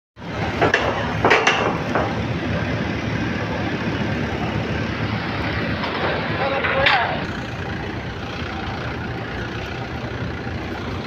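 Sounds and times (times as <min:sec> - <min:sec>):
low construction rumble: 0:00.2 - 0:11.0.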